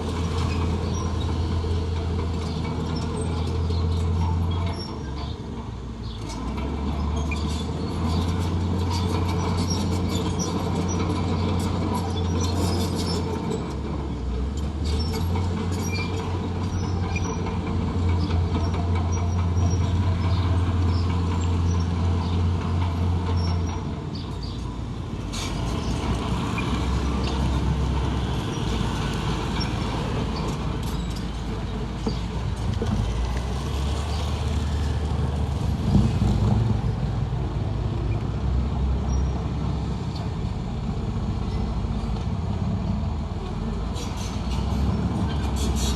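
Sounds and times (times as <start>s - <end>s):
diesel machinery droning: 0.0s - 45.9s.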